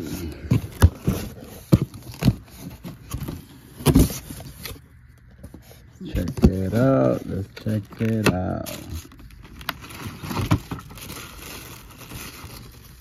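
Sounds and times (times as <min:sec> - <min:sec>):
cardboard box being opened: 0:00.0 - 0:13.0.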